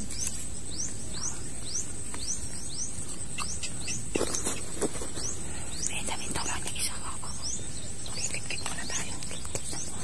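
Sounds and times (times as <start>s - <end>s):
bird chirping: 0.0s - 10.0s
high insect drone: 0.0s - 10.0s.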